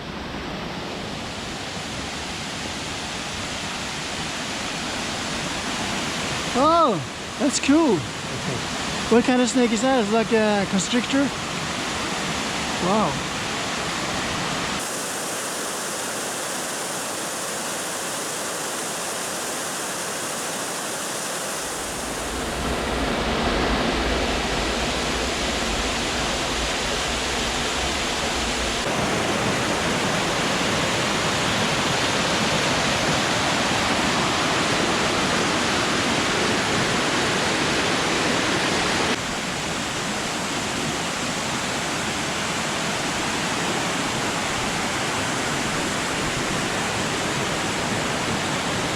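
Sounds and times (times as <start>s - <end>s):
water rushing: 0.2s - 48.9s.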